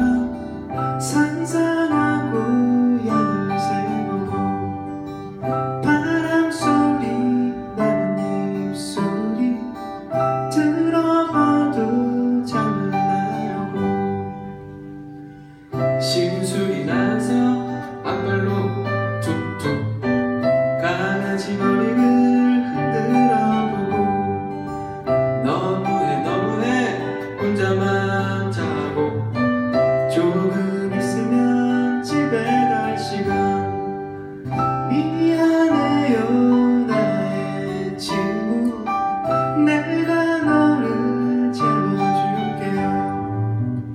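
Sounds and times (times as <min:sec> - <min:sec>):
man singing: 0:00.0 - 0:14.4, 0:15.8 - 0:43.6
acoustic guitars strummed: 0:00.0 - 0:43.9.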